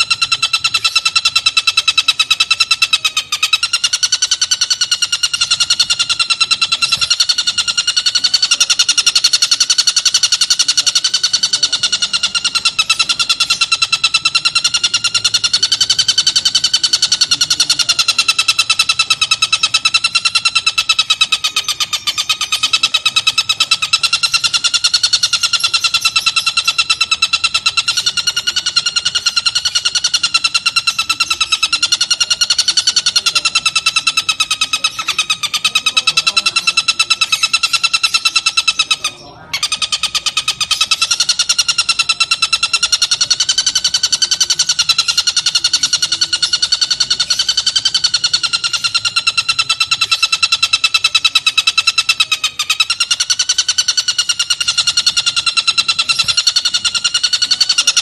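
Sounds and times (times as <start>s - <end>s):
bird chattering call: 0.0s - 58.0s.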